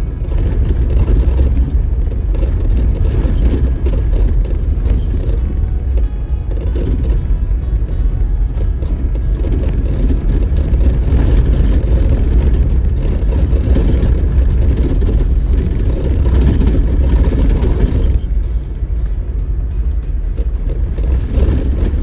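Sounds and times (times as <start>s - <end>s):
vehicle on dirt road rumbling: 0.0s - 22.0s.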